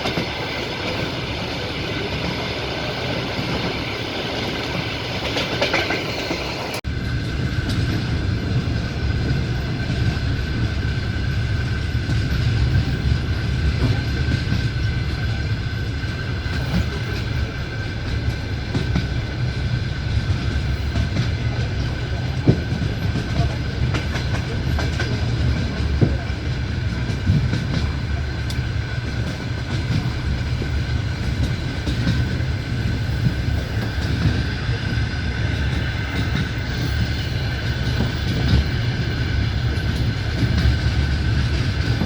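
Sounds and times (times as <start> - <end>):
train rumbling: 0.0 - 42.0.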